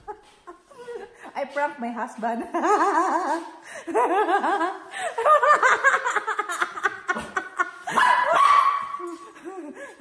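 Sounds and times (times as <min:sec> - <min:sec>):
woman laughing: 0:00.0 - 0:01.6, 0:02.2 - 0:10.0.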